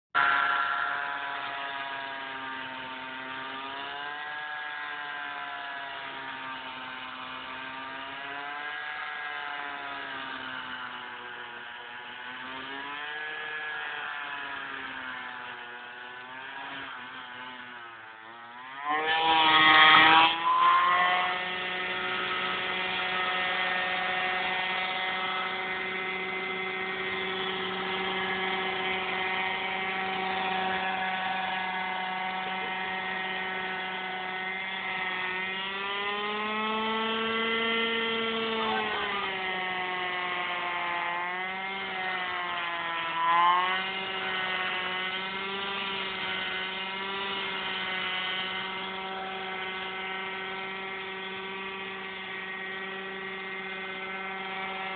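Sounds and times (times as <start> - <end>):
scooter engine at high revs: 0.1 - 54.9.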